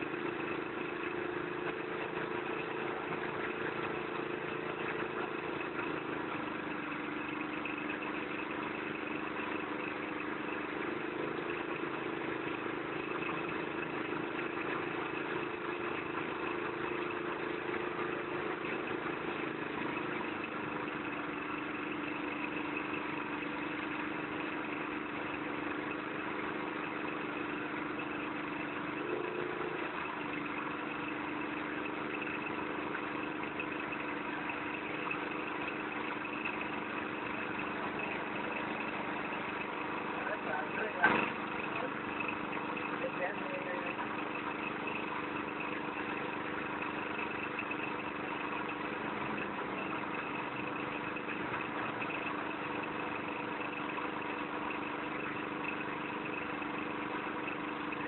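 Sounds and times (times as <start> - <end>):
threshing machine engine running: 0.0 - 58.0.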